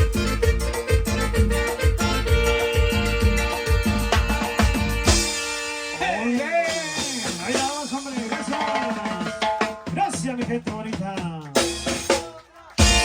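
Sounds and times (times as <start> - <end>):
latin dance music with drum beat: 0.0 - 13.0.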